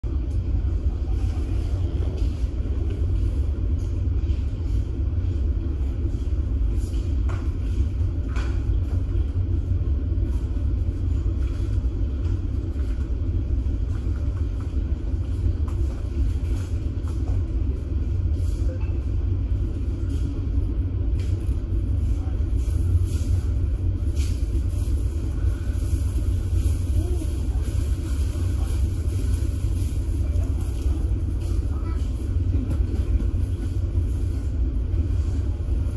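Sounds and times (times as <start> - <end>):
ship engines rumbling: 0.0 - 35.9.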